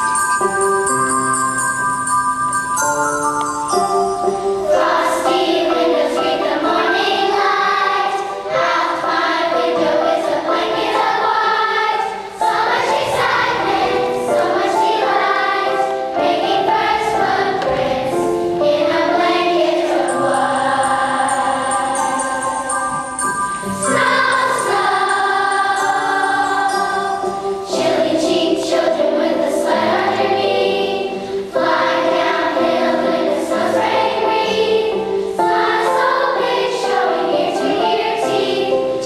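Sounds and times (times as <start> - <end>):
children's choir singing: 0.0 - 1.6, 3.4 - 39.0
instrumental accompaniment: 0.0 - 39.0.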